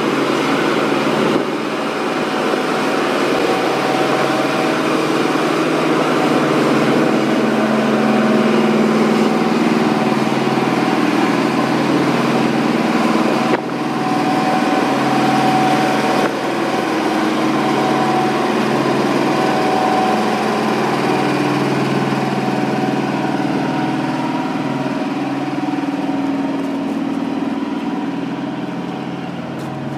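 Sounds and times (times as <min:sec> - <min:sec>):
heavy machine engine running: 0:00.0 - 0:29.9.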